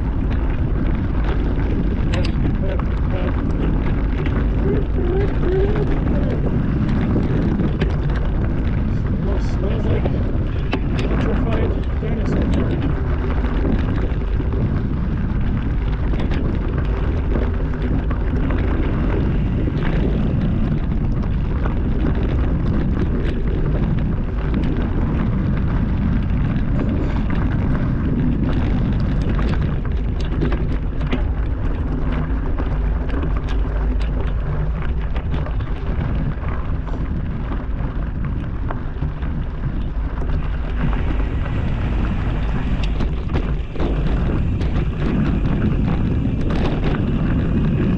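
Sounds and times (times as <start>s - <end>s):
bike rattling over rocks: 0.0s - 47.9s
wind buffeting microphone: 0.0s - 47.9s.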